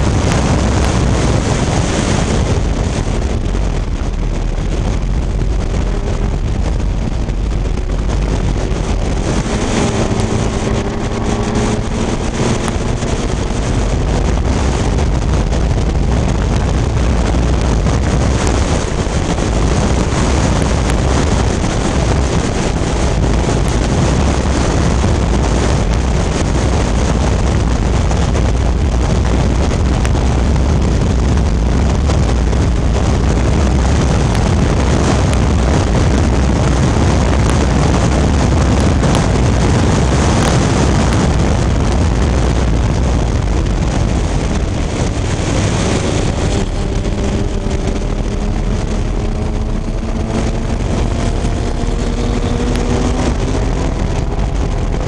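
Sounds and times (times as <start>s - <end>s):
race car engine running hard: 0.0s - 55.0s
wind buffeting on microphone: 0.0s - 55.0s.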